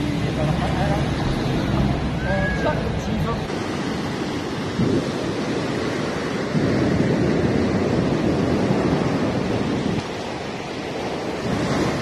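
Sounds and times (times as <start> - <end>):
surf: 0.0 - 12.0
wind on microphone: 0.0 - 12.0.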